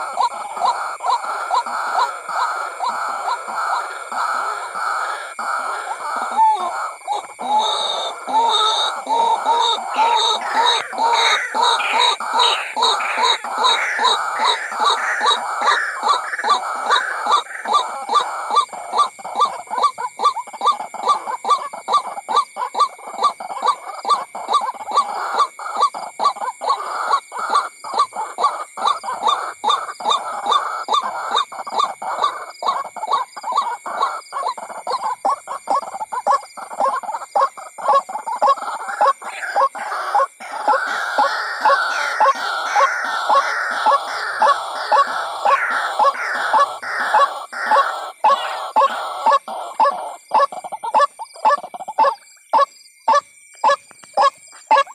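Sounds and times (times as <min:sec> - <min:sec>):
bird repeated croaking call: 0:00.0 - 0:54.9.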